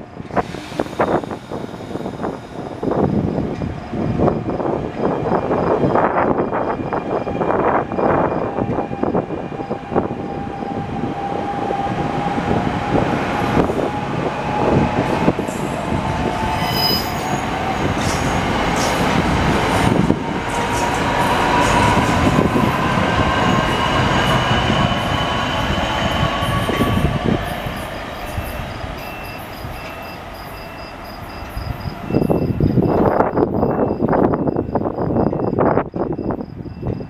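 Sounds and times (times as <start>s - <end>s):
wind buffeting microphone: 0.0s - 30.0s, 31.2s - 37.0s
train wheels rumbling on rails: 0.0s - 37.0s.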